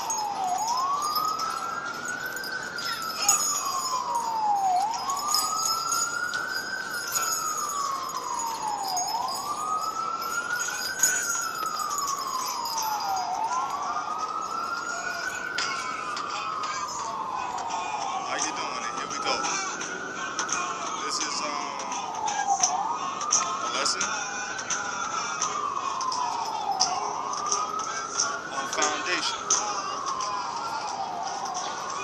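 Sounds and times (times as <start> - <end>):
siren wailing: 0.0 - 32.0.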